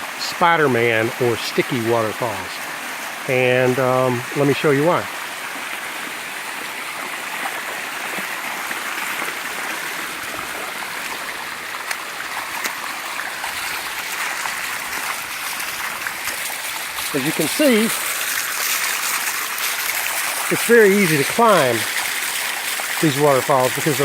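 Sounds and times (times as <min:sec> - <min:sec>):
waterfall rushing over rock: 0:00.0 - 0:24.0.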